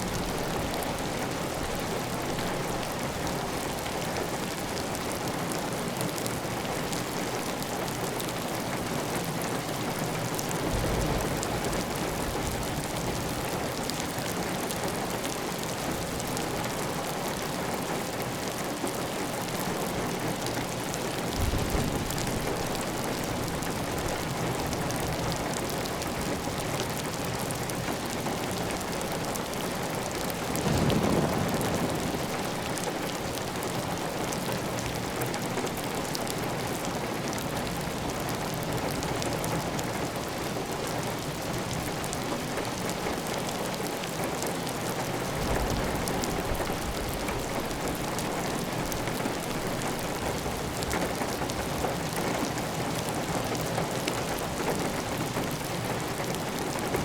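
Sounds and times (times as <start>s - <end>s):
heavy rain on a tile roof: 0.0s - 57.0s.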